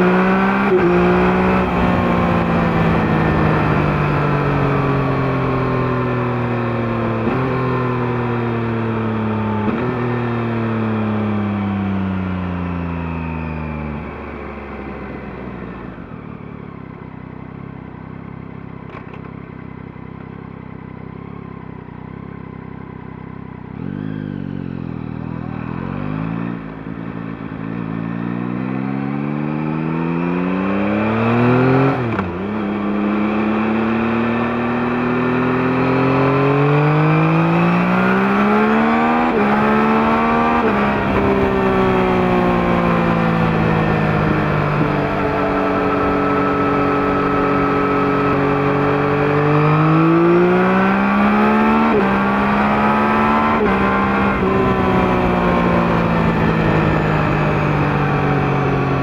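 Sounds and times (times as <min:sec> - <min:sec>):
motorcycle engine revving: 0:00.0 - 0:13.4, 0:20.2 - 0:59.0.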